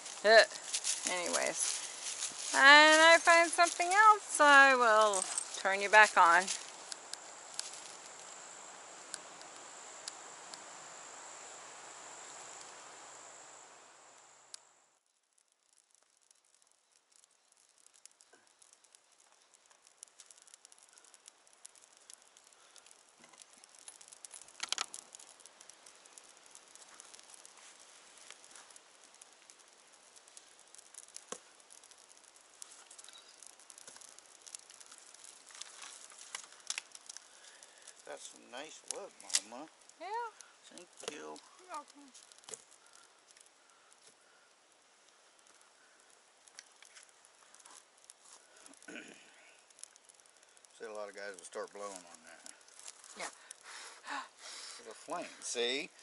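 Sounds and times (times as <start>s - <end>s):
insects trilling: 0.0s - 15.1s, 15.7s - 56.0s
dry grass crackling in fire: 0.0s - 56.0s
faint ticks: 4.8s - 8.4s, 9.0s - 10.7s, 14.5s - 14.7s, 15.3s - 56.0s.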